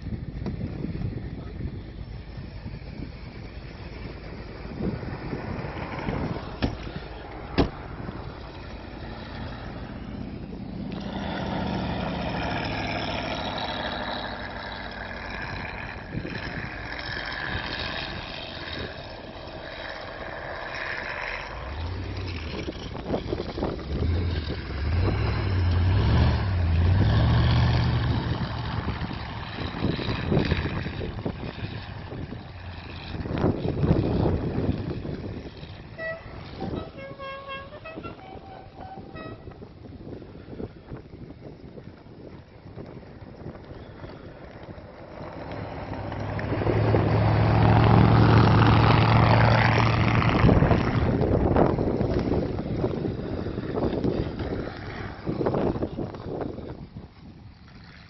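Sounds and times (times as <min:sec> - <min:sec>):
tracked vehicle engine in snow: 0:00.0 - 0:58.0.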